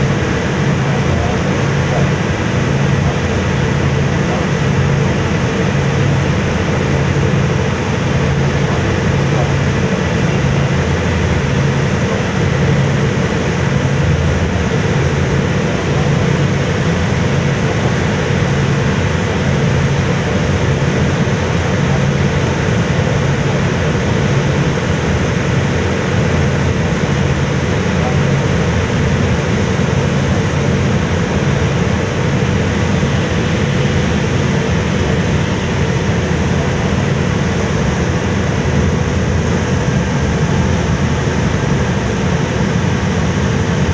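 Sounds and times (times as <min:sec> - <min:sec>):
rush of propeller wake: 0:00.0 - 0:43.9
ship diesel engines droning: 0:00.0 - 0:43.9.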